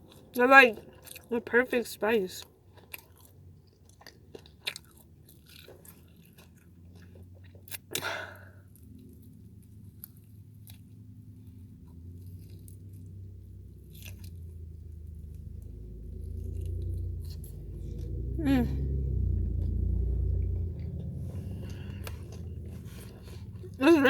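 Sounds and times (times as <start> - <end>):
person chewing and crunching: 0.0 - 1.4, 2.4 - 24.0.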